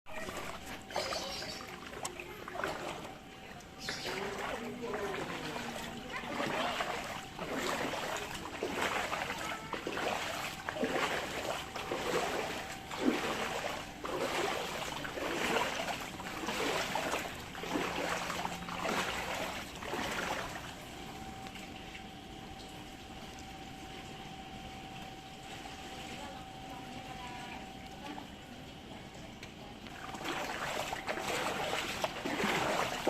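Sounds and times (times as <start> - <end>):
floodwater sloshing and splashing: 0.1 - 33.0.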